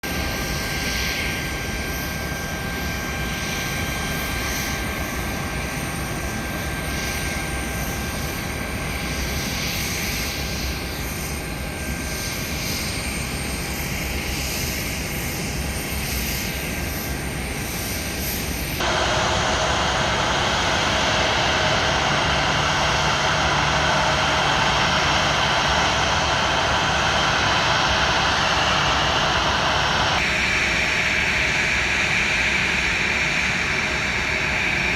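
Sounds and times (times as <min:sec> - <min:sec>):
aircraft engines running: 0:00.0 - 0:34.9.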